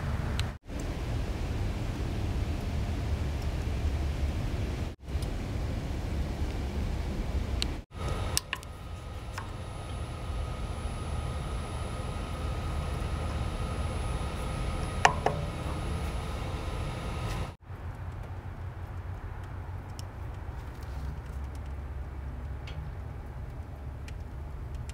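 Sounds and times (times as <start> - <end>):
combustion fan whine: 0.0 - 24.9
smoker low rumble: 0.0 - 24.9.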